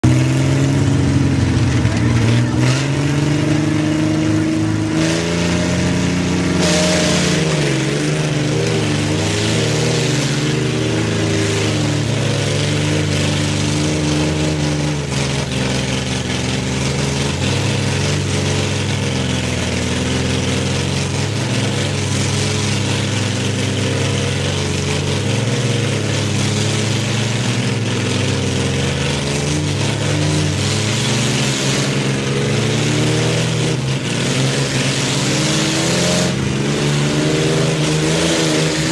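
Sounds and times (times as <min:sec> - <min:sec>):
truck engines revving under load: 0:00.0 - 0:38.9.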